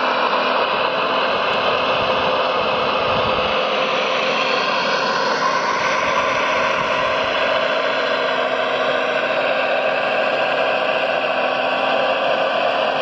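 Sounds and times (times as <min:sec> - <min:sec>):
model excavator motor whirring: 0:00.0 - 0:13.0.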